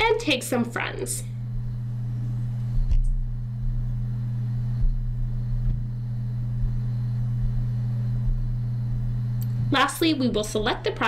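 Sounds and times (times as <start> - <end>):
low tonal hum: 0.0 - 11.0.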